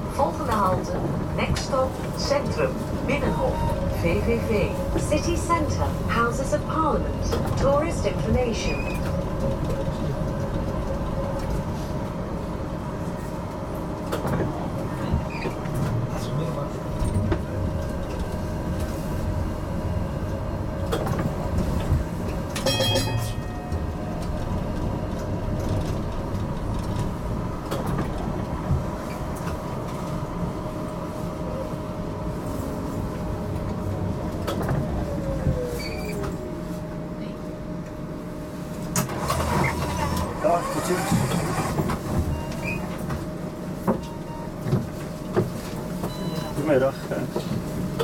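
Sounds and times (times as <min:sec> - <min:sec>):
tram electric hum: 0:00.0 - 0:48.0
wheels rumbling on rails: 0:00.0 - 0:48.0.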